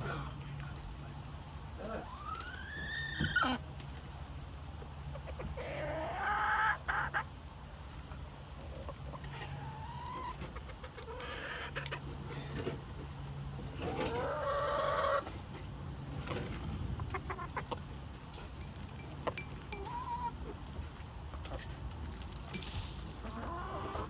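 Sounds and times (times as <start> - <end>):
hens clucking: 1.3 - 24.0.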